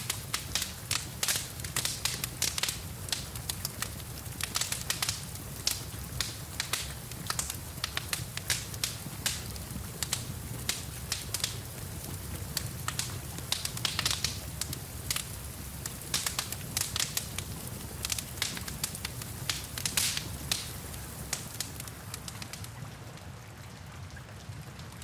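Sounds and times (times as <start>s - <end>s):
sharp pops of fire: 0.0s - 22.7s
low rumble of flames: 0.0s - 25.0s
wood fire crackling: 0.0s - 25.0s.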